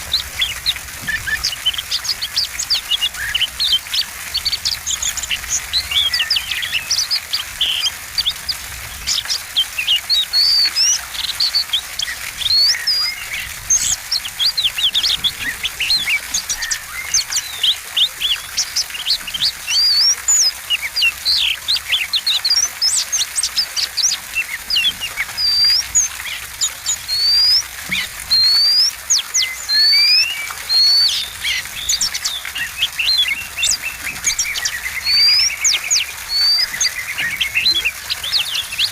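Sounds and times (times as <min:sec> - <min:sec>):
songbird singing whistles and chirps: 0:00.0 - 0:38.9.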